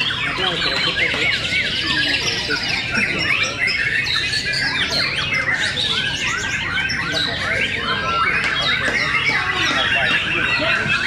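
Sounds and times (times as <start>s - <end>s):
chorus of birds singing: 0.0s - 11.0s.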